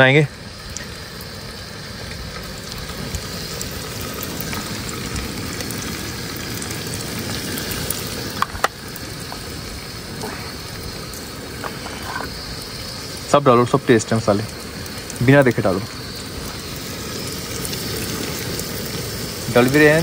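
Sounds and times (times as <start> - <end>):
sauce sizzling in oil: 0.0 - 20.0.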